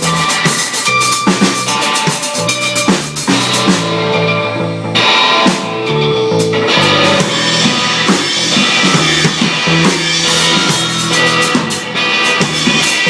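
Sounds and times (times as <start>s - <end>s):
drum kit playing: 0.0s - 13.0s
guitar playing: 0.0s - 13.0s.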